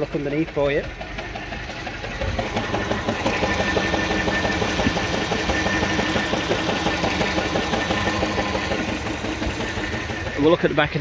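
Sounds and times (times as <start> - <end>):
engine idling unevenly: 0.0 - 11.0.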